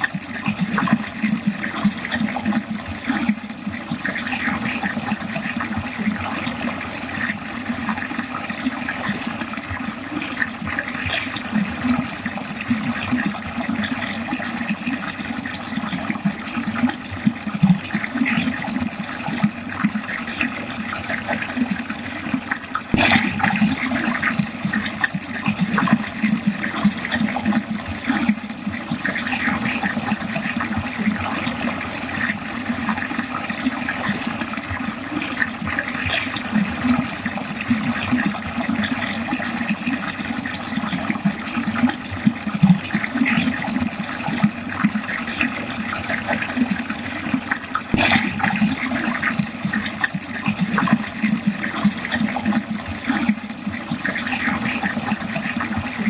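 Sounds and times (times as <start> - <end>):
water running down a drain: 0.0 - 56.0.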